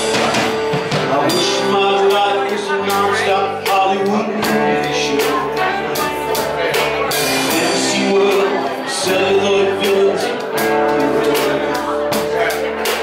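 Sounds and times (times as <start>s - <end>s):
live rock band playing: 0.0s - 13.0s
people singing: 0.4s - 13.0s.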